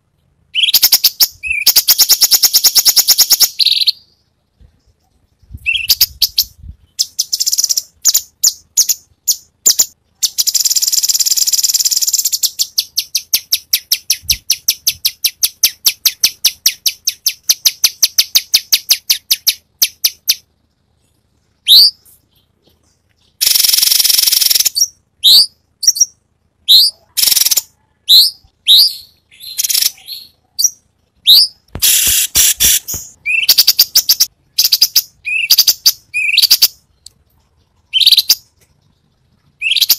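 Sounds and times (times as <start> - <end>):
bird singing: 0.5 - 39.9.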